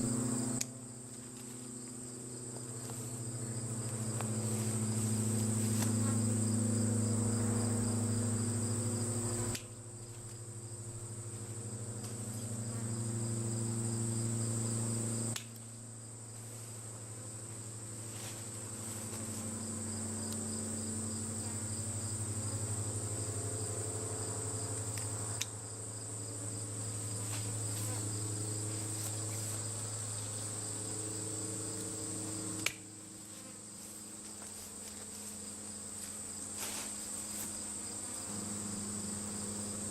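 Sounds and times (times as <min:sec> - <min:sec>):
bee swarm droning: 0:00.0 - 0:39.9
high insect trill: 0:00.0 - 0:39.9.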